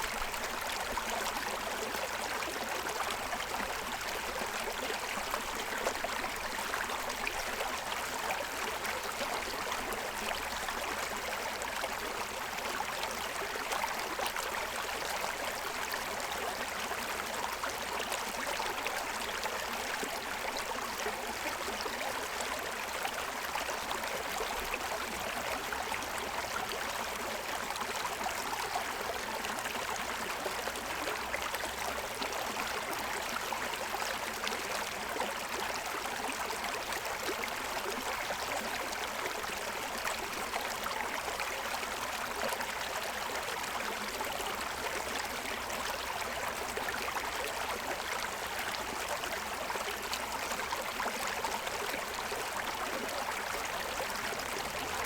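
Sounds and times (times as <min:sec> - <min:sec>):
stream over stones: 0:00.0 - 0:55.0.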